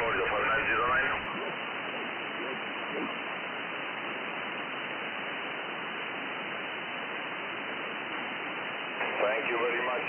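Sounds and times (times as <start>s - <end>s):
shortwave receiver hiss: 0.0s - 10.0s.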